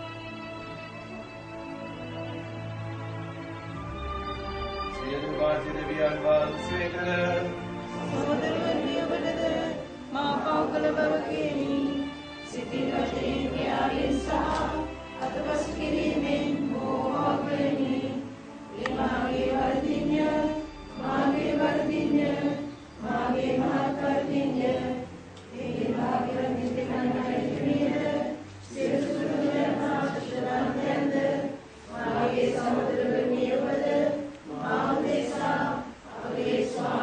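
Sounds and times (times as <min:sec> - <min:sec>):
congregation chanting a prayer: 0:04.9 - 0:37.0.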